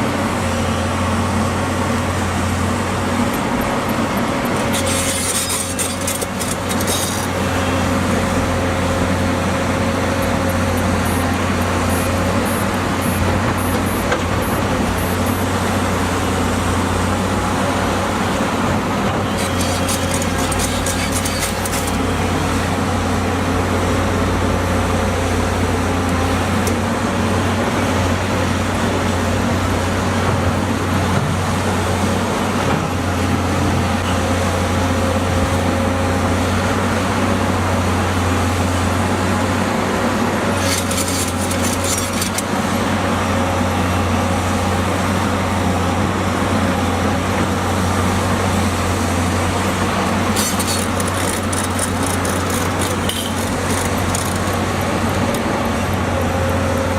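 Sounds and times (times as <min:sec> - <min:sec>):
heavy machinery diesel engine: 0:00.0 - 0:56.9.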